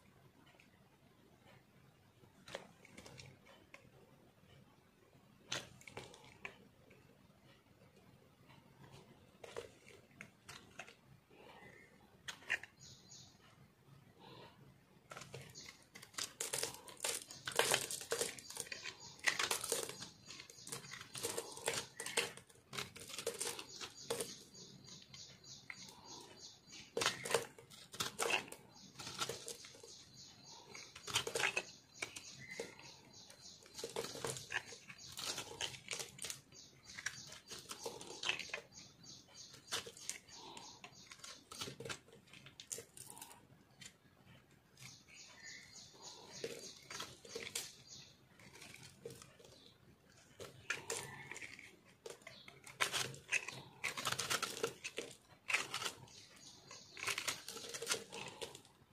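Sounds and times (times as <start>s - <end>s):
knife scraping crumbly soap: 2.3s - 4.0s, 5.4s - 58.9s.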